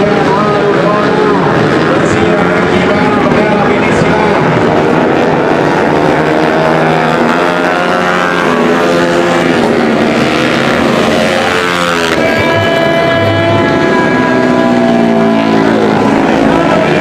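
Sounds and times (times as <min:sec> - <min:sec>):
motorcycle engines racing: 0:00.0 - 0:17.0.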